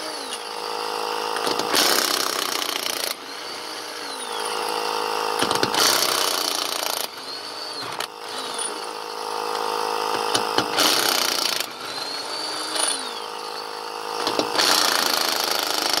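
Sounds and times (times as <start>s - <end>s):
power tool bursts: 0.0s - 16.0s.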